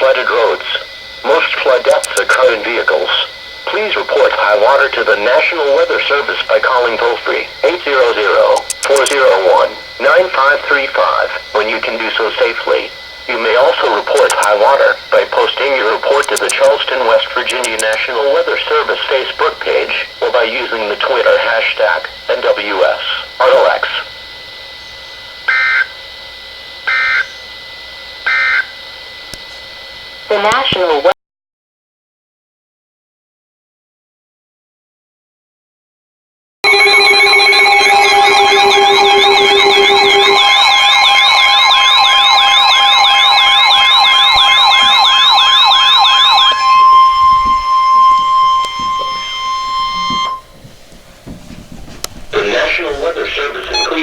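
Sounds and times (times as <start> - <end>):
electronic siren-like warble: 0.0 - 29.2, 36.6 - 50.5, 52.4 - 54.0
buzzing data tone bursts: 0.0 - 30.7, 36.6 - 50.6, 52.4 - 54.0.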